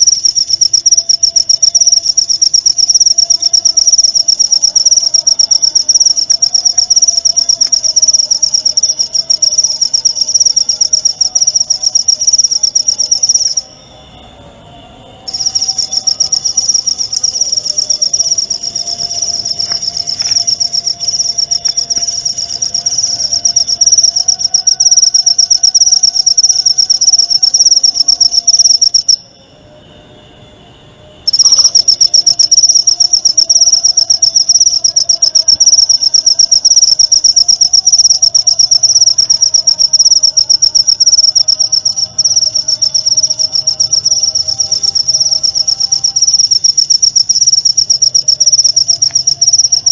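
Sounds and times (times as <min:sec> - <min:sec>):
cricket trilling: 0:00.0 - 0:49.9.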